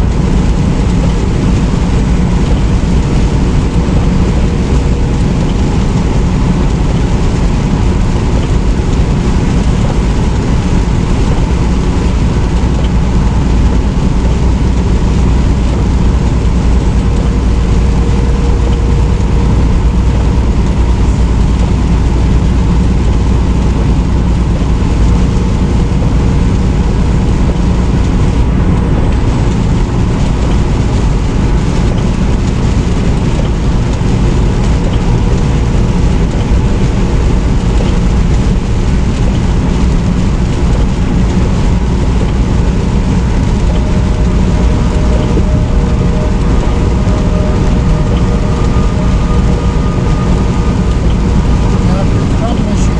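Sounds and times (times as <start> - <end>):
road noise: 0.0 - 52.9
truck engine drone: 0.0 - 52.9.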